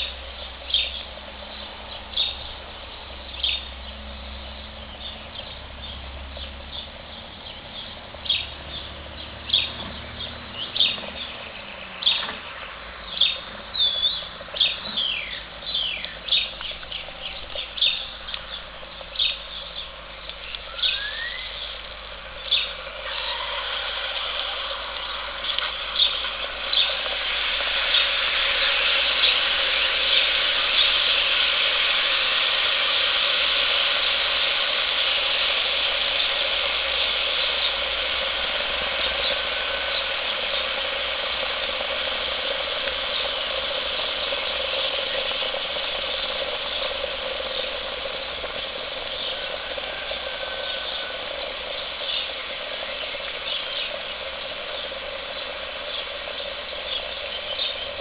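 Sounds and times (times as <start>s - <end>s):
quicklime crackling and fizzing: 0.0s - 58.0s.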